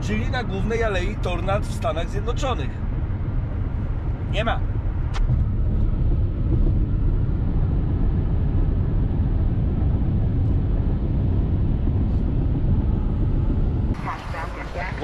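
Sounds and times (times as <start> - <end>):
car tyre and engine rumble: 0.0 - 15.0.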